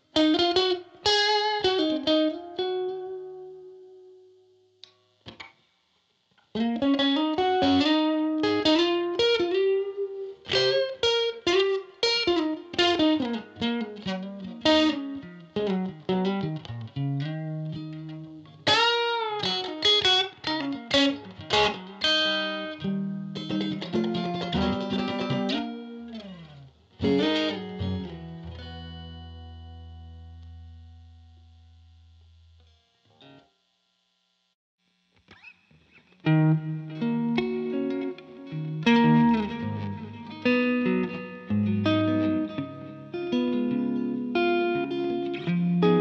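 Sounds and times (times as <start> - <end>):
electric guitar playing: 0.0 - 4.7, 6.5 - 33.4, 35.3 - 46.0.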